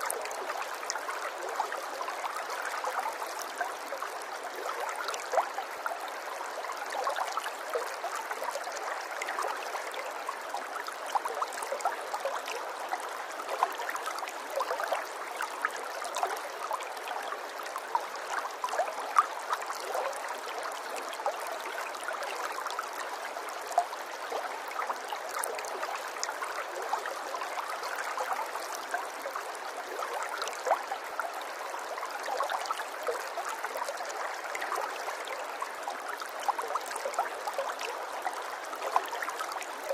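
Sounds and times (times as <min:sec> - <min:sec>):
running water with plinks: 0:00.0 - 0:39.9.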